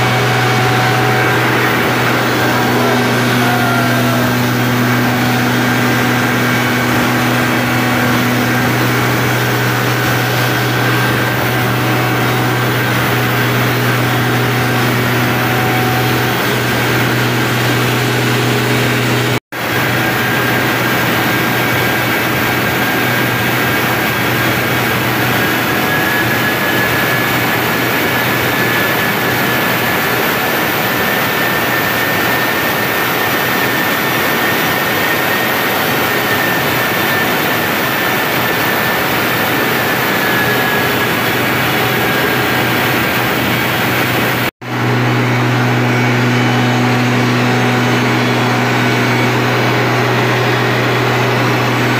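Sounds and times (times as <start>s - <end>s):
diesel generator running: 0.0s - 51.9s.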